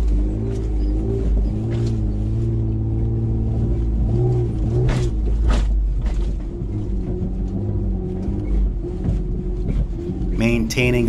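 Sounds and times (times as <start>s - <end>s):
car engine and exhaust: 0.0s - 11.0s.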